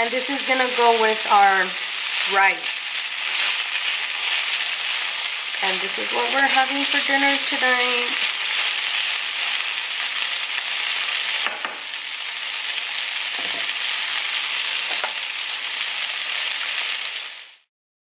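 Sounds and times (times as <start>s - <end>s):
chicken sizzling in a frying pan: 0.0s - 17.7s.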